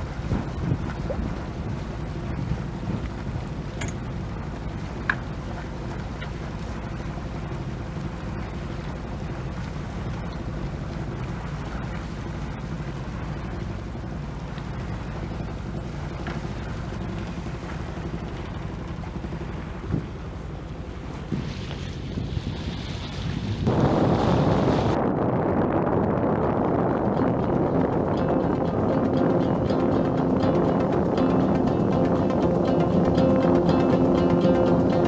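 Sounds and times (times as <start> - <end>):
boat engine running: 0.0 - 35.0
water noise: 0.0 - 35.0
wind: 0.0 - 35.0.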